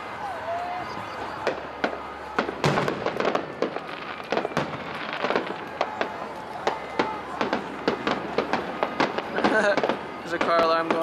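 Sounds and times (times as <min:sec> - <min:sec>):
fireworks bangs and pops: 0:01.3 - 0:11.0.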